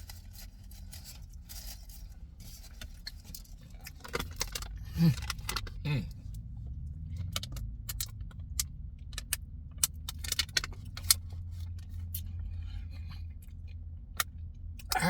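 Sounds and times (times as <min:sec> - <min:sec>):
car rumble: 0:00.0 - 0:15.0.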